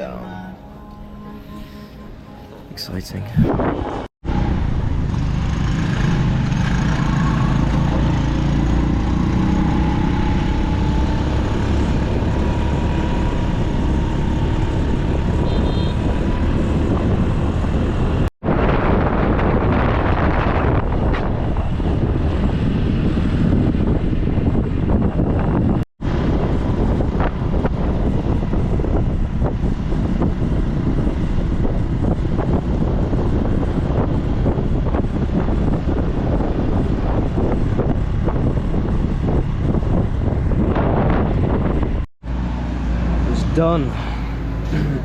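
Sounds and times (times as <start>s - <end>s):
wind rushing on microphone: 2.9s - 44.6s.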